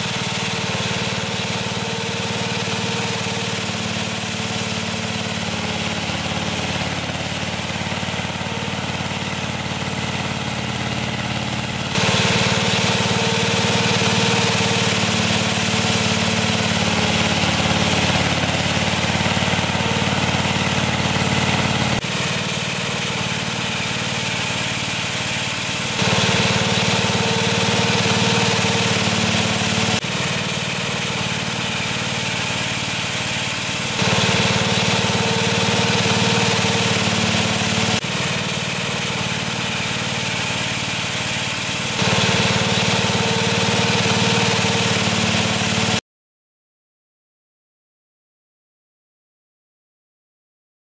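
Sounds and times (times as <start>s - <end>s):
small petrol engine running: 0.0s - 46.0s.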